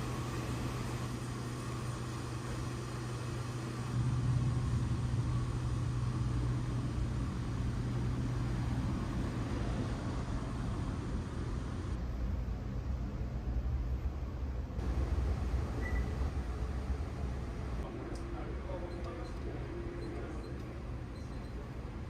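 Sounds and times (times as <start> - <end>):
train humming: 0.0 - 22.0.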